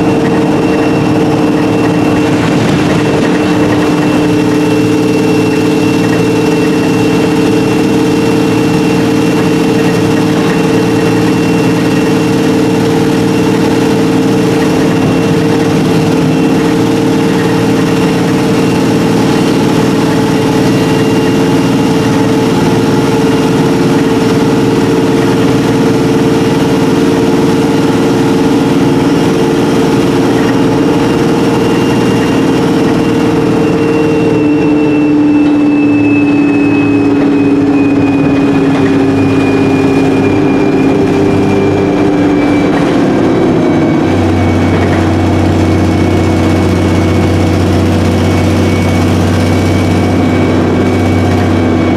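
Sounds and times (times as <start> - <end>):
bus engine hum and whine: 0.0 - 51.9.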